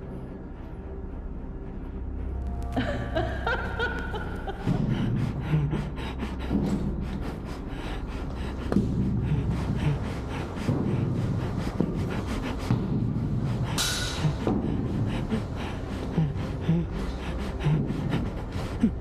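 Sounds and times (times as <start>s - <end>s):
person panting hard: 2.7s - 19.0s.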